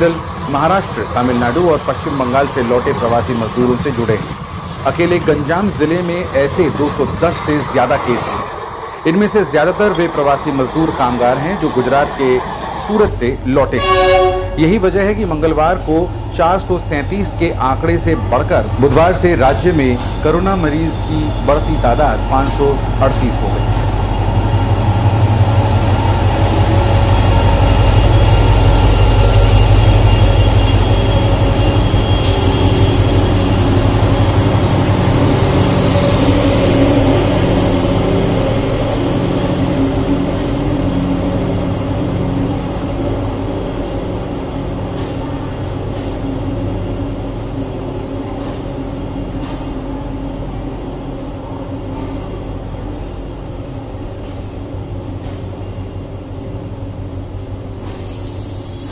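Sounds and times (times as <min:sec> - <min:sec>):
diesel locomotive engine rumbling: 0:00.0 - 0:58.9
passenger coaches rolling past: 0:00.0 - 0:58.9
high-pitched squeal: 0:05.9 - 0:58.9.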